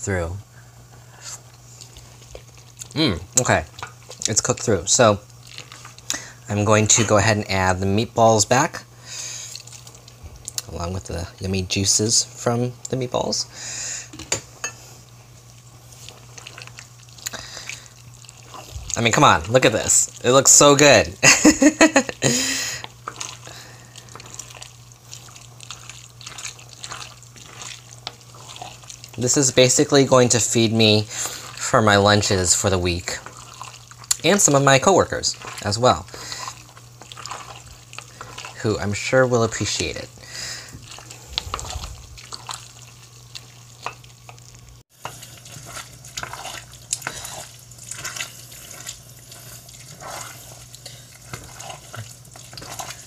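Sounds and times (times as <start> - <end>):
steady low hum: 0.0 - 53.0
spoon stirring wet food in pot: 1.4 - 7.5, 14.1 - 21.2, 22.6 - 53.0.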